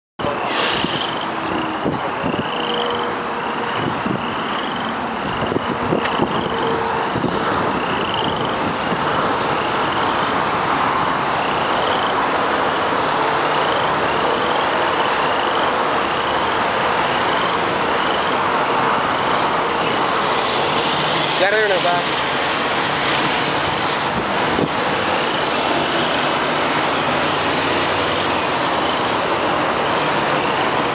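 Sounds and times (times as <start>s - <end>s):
road traffic noise: 0.2s - 30.9s.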